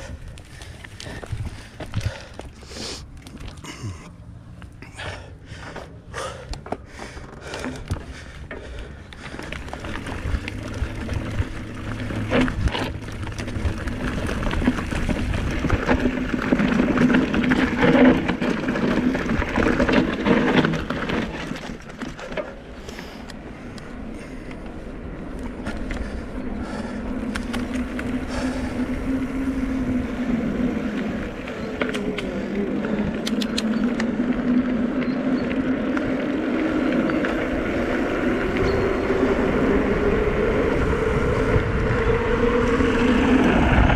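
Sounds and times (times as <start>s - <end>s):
bike rattling over stones: 0.0s - 41.3s
wind: 0.0s - 43.9s
electric bike motor hum: 3.2s - 43.9s.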